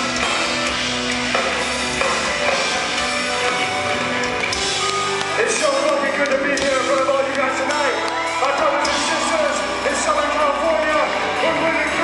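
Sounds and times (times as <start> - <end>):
distorted electric guitars: 0.0 - 12.0
drum kit: 0.0 - 12.0.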